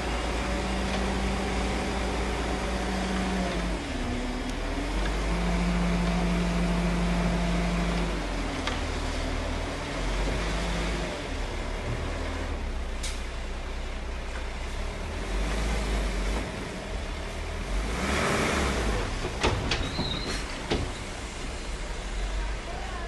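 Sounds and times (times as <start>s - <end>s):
heavy diesel machinery rumbling: 0.0s - 23.0s.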